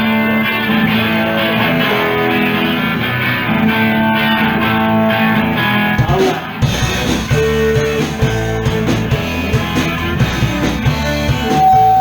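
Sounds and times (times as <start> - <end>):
guitar playing ringing chords: 0.0 - 12.0.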